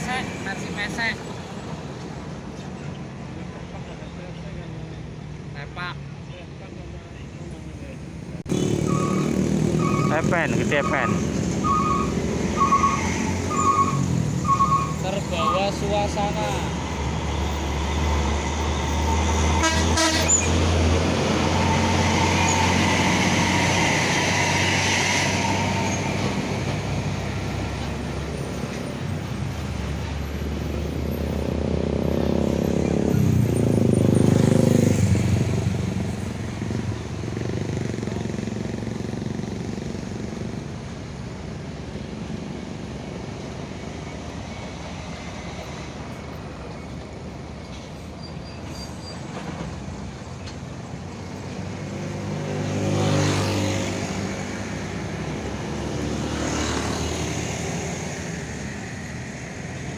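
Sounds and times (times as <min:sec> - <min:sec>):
heavy trucks passing: 0:07.4 - 0:59.9.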